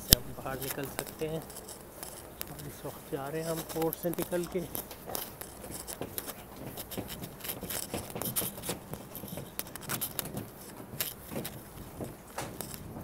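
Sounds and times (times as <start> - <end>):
footsteps on metal gangway: 0.0 - 13.0.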